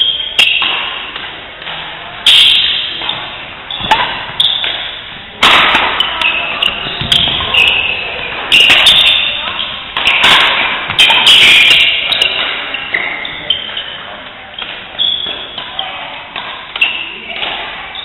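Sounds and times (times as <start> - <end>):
rackets hitting shuttlecock: 0.0 - 18.0
shoes squeaking on court: 2.3 - 5.2, 5.8 - 16.0, 16.6 - 18.0.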